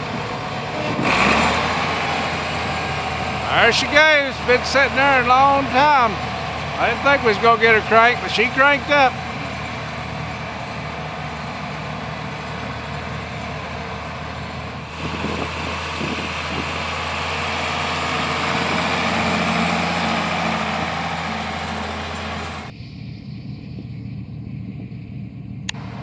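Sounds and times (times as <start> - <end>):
tractor engine running: 0.0 - 22.7, 25.7 - 26.0.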